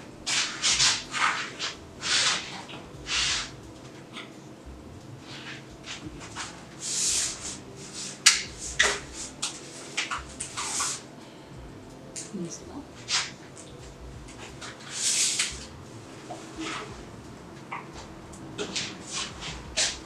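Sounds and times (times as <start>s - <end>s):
rustling hisses: 0.0s - 11.4s, 12.0s - 20.0s.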